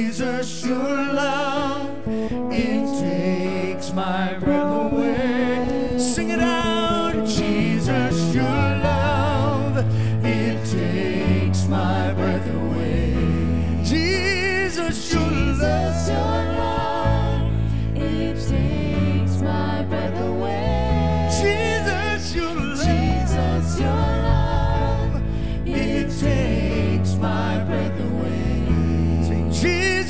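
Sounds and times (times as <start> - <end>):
keyboard: 0.0 - 30.0
person singing: 0.0 - 30.0
bass notes: 3.9 - 30.0.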